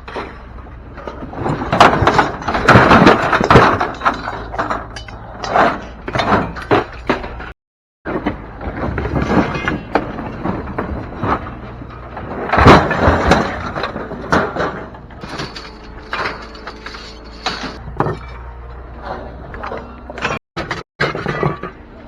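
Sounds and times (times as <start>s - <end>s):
scrap metal clanking onto pile: 0.0s - 21.8s.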